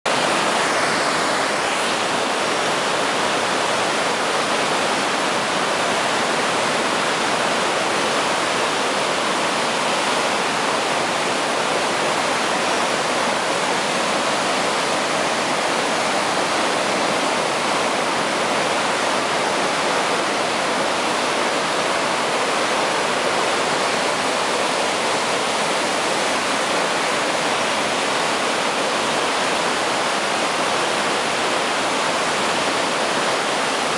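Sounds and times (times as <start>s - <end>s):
river rapids rushing: 0.1s - 33.9s.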